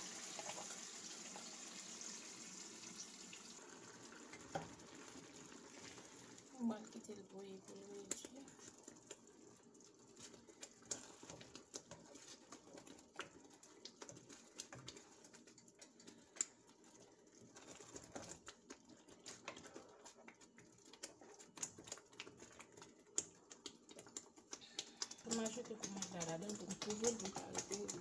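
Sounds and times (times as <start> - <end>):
spoon stirring in frying pan: 0.0 - 28.0.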